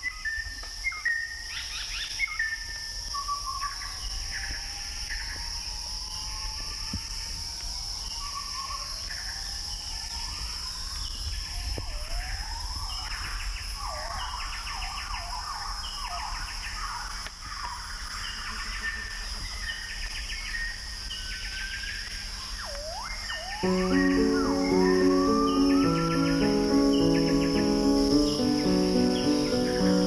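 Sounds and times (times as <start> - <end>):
high insect drone: 0.0 - 30.0.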